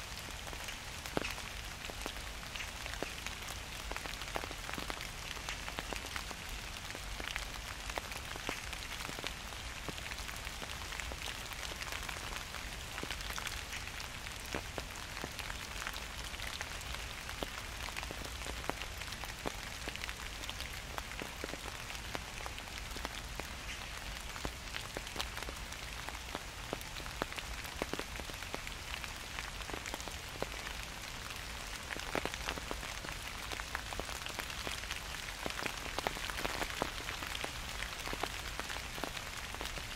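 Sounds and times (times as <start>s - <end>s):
rain falling: 0.0s - 39.9s
raindrops ticking on surfaces: 0.0s - 39.9s.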